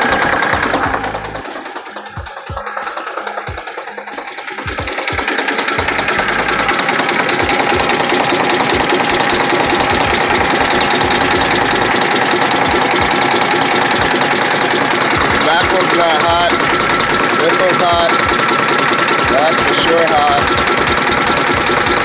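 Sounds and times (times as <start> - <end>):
diesel engine idling rough: 0.0 - 22.0.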